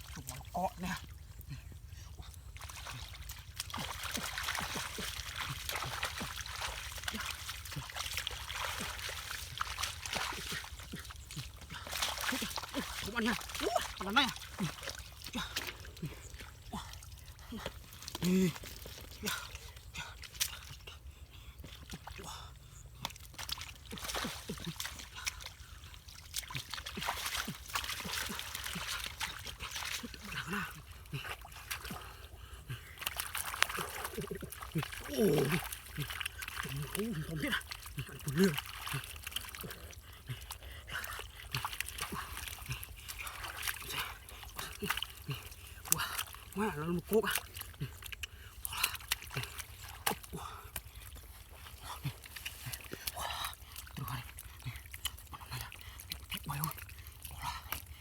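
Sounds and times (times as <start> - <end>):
floodwater splashing and sloshing: 0.0 - 58.0
water drips and plops: 2.2 - 58.0.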